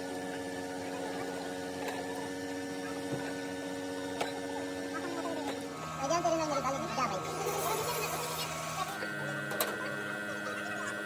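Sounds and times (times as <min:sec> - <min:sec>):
steady even hum: 0:00.0 - 0:11.0.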